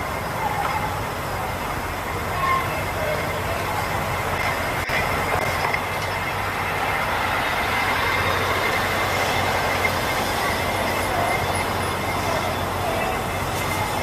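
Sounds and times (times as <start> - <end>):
loud droning din: 0.0 - 14.0
thin high whine: 0.0 - 14.0.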